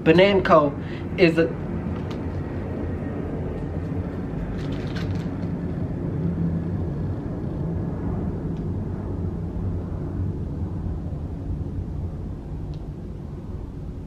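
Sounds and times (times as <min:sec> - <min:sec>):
airplane passing overhead: 0:00.0 - 0:14.0.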